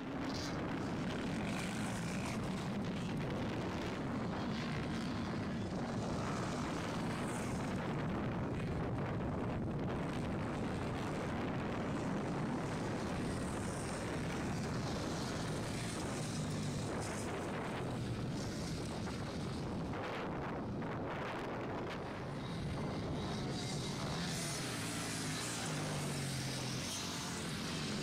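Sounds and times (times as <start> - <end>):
distant dirt-bike engines: 0.0 - 28.0
wind buffeting microphone: 0.0 - 28.0.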